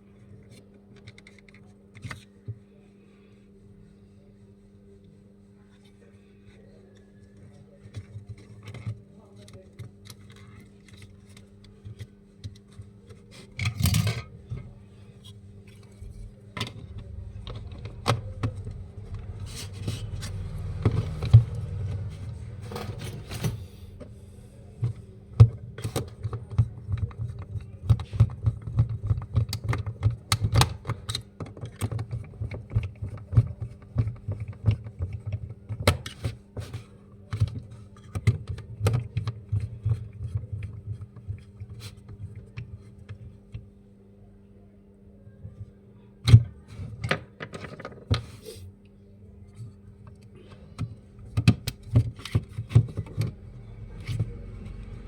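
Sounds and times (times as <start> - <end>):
steady low hum: 0.0 - 31.1, 31.7 - 55.0.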